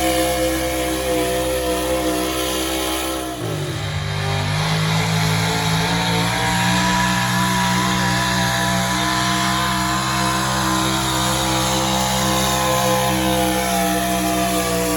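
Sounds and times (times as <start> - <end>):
truck engine running hard: 0.0 - 14.9.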